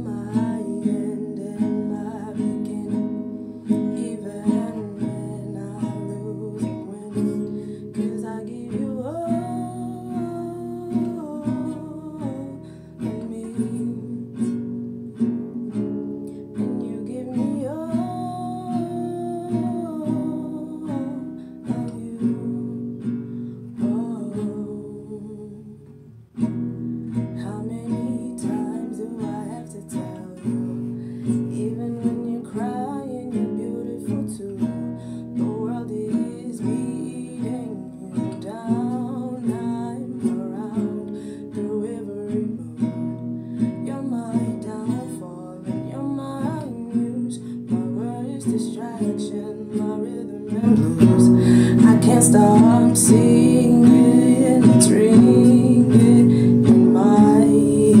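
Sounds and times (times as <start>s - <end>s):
woman singing: 0.0s - 26.1s, 27.1s - 58.0s
acoustic guitar strumming: 0.0s - 58.0s.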